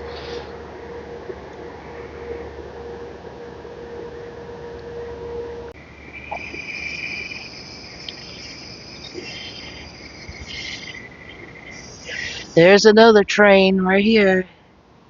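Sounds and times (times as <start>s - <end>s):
crickets chirring: 0.0s - 12.9s
steady hum: 0.0s - 15.0s.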